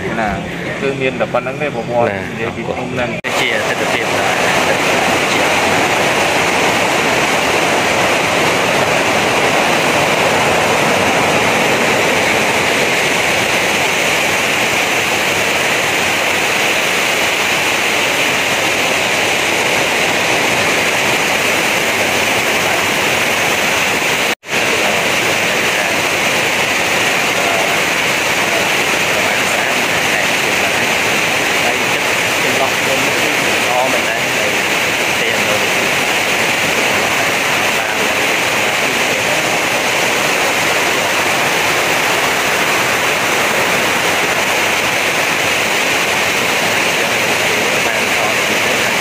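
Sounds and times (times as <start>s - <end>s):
waterfall rushing into rapids: 3.3s - 49.0s.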